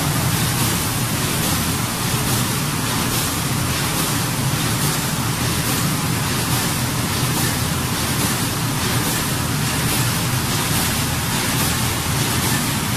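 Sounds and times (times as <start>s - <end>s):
machine whirring and humming: 0.0s - 12.9s.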